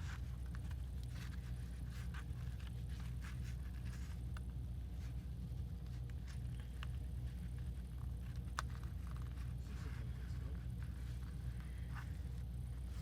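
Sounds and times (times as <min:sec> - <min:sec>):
hands handling paper: 0:00.0 - 0:13.0
steady low hum: 0:00.0 - 0:13.0.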